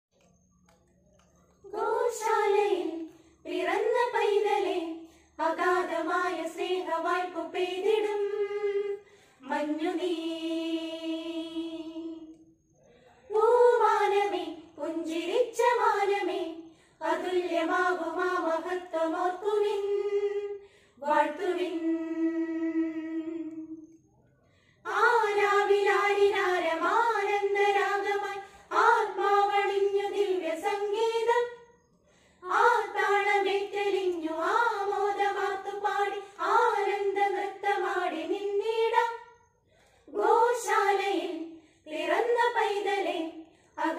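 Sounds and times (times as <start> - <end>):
women's choir singing a cappella: 1.6 - 12.4, 13.3 - 23.9, 24.8 - 43.9.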